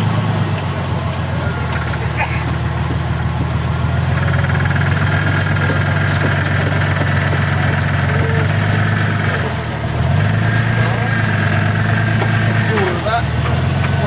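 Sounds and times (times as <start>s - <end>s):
engine running under load: 0.0s - 14.0s.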